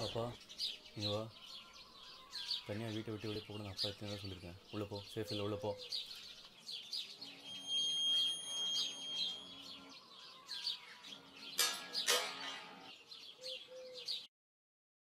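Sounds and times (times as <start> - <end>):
small birds chirping: 0.0 - 14.3.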